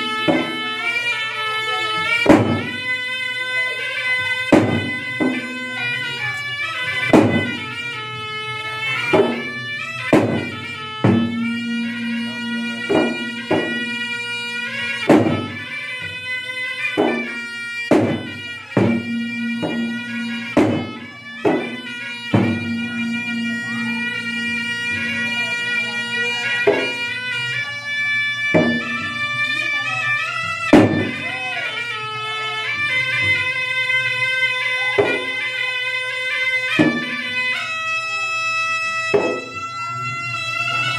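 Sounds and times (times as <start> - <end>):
hand-beaten drums: 0.0 - 40.9
pipe playing long held notes: 0.0 - 40.9.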